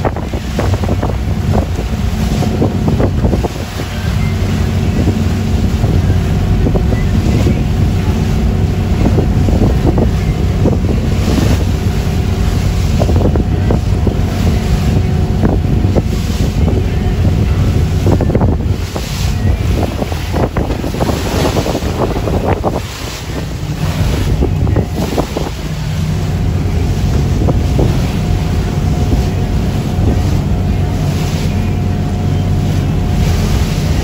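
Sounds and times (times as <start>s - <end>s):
boat engine running: 0.0s - 34.0s
water splashing along hull: 0.0s - 34.0s
wind buffeting microphone: 0.0s - 34.0s.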